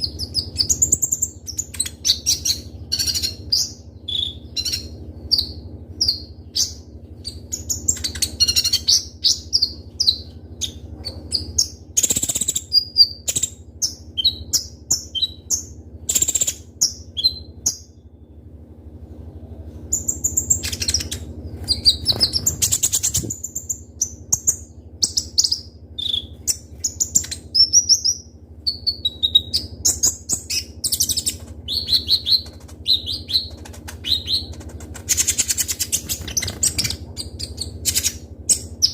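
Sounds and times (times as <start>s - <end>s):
steady low hum: 0.0s - 38.9s
sunbird chirps and trills: 0.0s - 38.9s.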